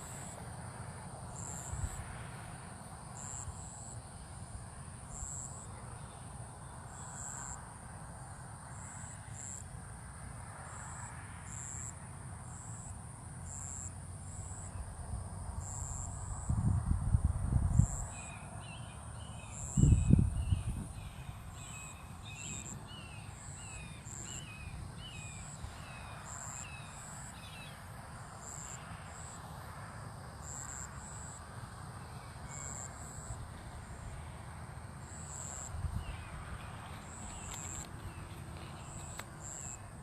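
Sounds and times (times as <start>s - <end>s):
high insect chirp: 0.0s - 40.0s.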